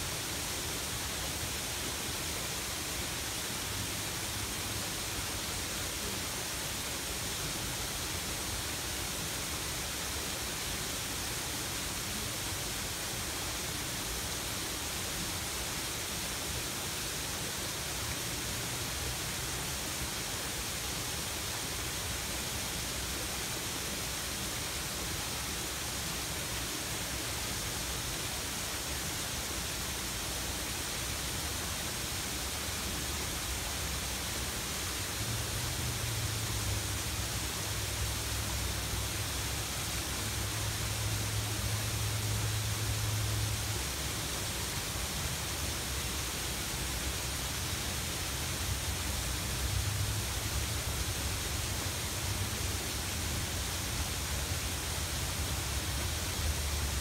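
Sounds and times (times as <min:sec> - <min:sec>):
waterfall rushing into pond: 0:00.0 - 0:57.0.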